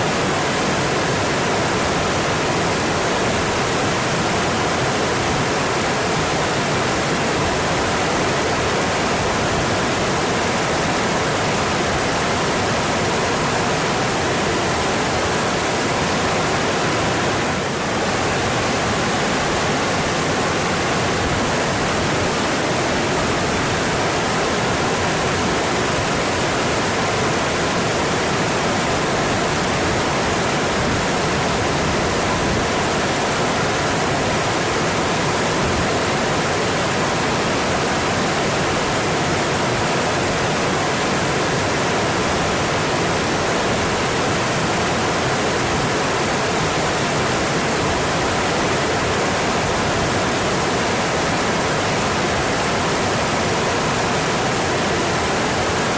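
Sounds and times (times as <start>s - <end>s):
mountain stream rushing: 0.0s - 55.9s.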